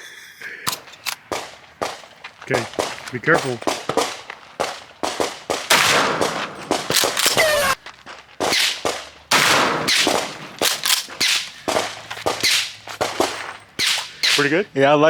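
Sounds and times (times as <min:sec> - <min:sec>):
distant guns firing: 0:00.7 - 0:07.8, 0:08.4 - 0:14.7
shotgun shots echoing: 0:00.7 - 0:07.8, 0:08.4 - 0:14.7.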